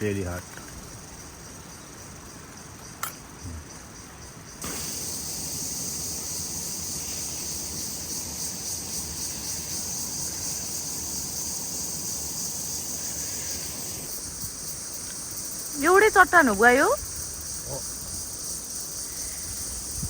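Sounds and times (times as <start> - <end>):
insects shrilling: 0.0 - 20.0.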